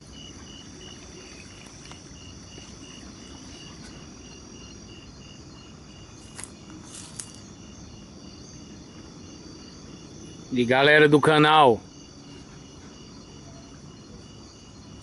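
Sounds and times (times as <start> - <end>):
cricket chirping: 0.0 - 15.0
high-pitched insect drone: 0.0 - 15.0.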